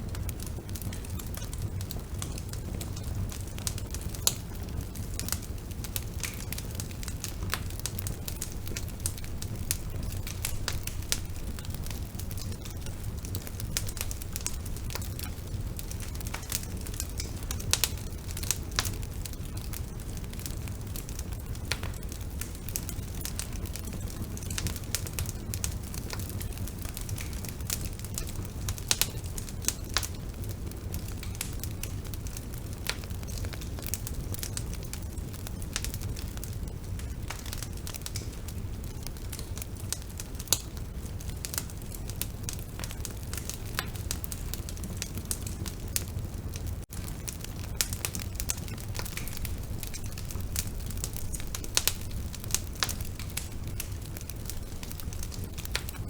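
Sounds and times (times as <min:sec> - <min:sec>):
bonfire flames rumbling: 0:00.0 - 0:56.0
fire crackling and popping: 0:00.0 - 0:56.0.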